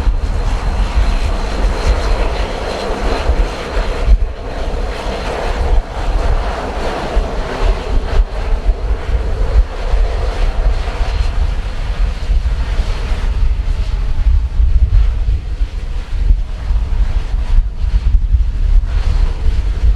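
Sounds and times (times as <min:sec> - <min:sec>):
aircraft engine roar: 0:00.0 - 0:19.9
wind buffeting microphone: 0:00.0 - 0:19.9.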